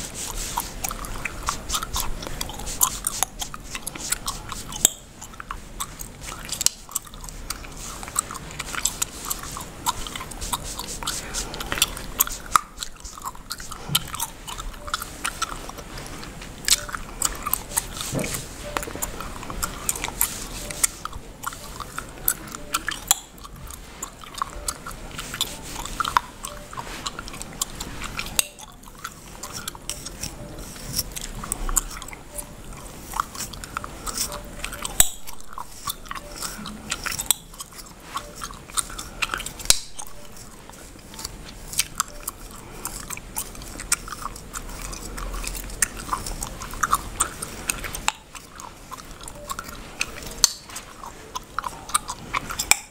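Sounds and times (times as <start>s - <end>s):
comb scratching through hair: 0.0s - 52.7s
bubblegum chewing and popping: 0.0s - 52.9s.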